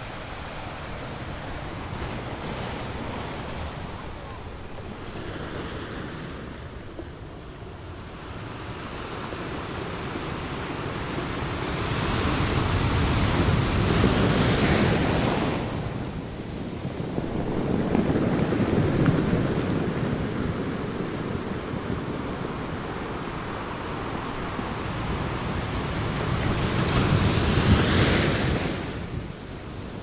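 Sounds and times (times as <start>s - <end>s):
waves: 0.0s - 30.0s
wind: 0.0s - 30.0s.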